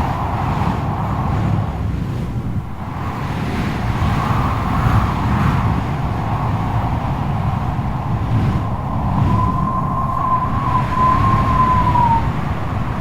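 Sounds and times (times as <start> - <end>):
strong wind howling: 0.0 - 13.0.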